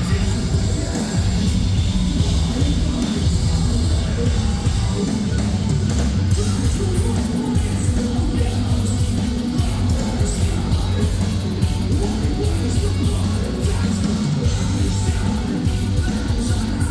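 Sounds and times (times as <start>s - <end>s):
bass guitar: 0.0s - 16.9s
distorted guitars: 0.0s - 16.9s
drums: 0.0s - 16.9s
vocals: 0.0s - 16.9s.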